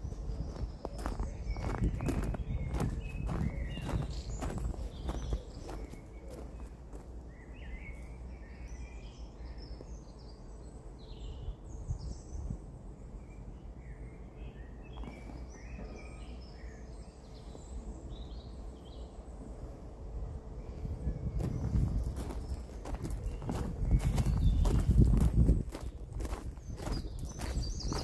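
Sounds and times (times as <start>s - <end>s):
low outdoor rumble: 0.0s - 28.0s
songbirds singing: 0.0s - 28.0s.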